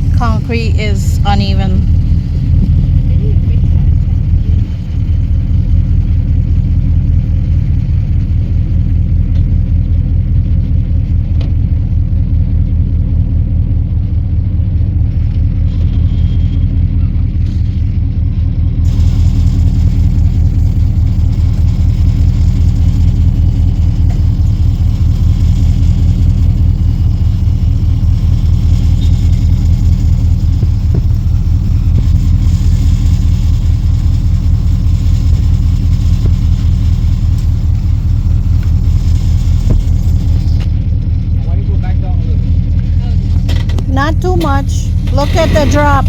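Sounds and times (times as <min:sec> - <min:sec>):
engine pulsing rumble: 0:00.0 - 0:46.0.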